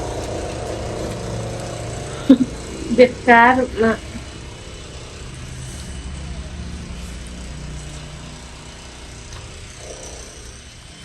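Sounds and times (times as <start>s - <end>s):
construction machine engine droning: 0.0s - 11.0s.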